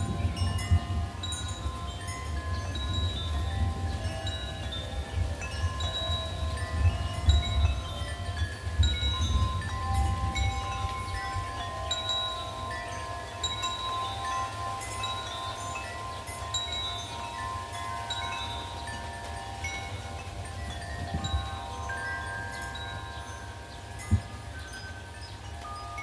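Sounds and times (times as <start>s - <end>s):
wind chimes ringing: 0.0s - 26.0s
wind rumble on microphone: 0.0s - 26.0s.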